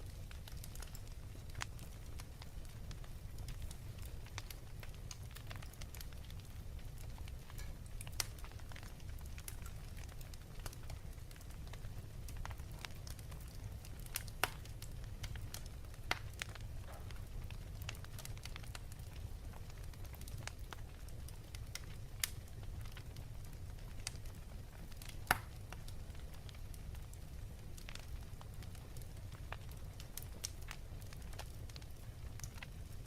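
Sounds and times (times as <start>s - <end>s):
fire crackling in a fireplace: 0.0s - 33.0s.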